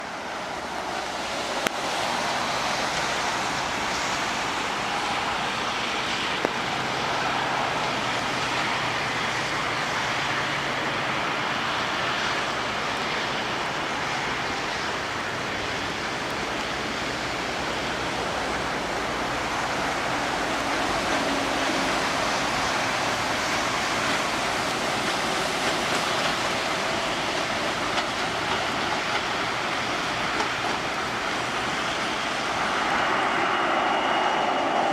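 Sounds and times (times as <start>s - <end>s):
jet engine and airflow rush: 0.0s - 34.9s.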